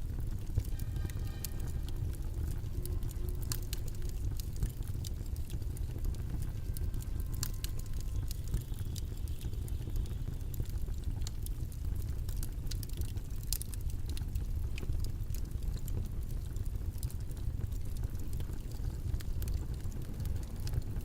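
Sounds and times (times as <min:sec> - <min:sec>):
low rumbling noise: 0:00.0 - 0:12.0, 0:15.5 - 0:21.0
sharp clicks and crackles: 0:00.1 - 0:21.0.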